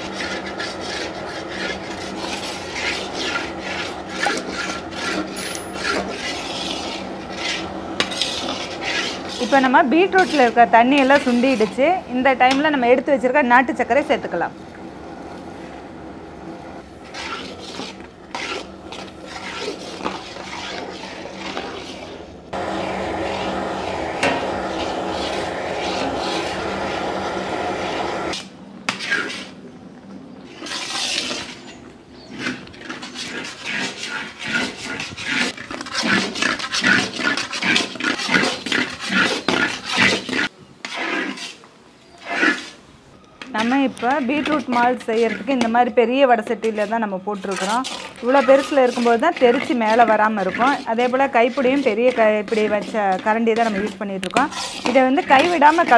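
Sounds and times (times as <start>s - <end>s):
metal ladle scraping iron pan: 0.0s - 12.9s, 17.0s - 29.6s, 30.5s - 42.8s, 43.4s - 55.9s.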